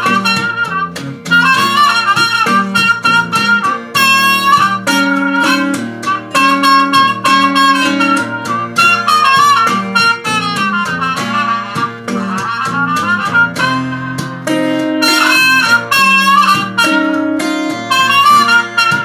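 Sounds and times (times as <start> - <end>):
acoustic guitar strumming: 0.0 - 19.0
trumpet playing blues melody: 0.0 - 19.0.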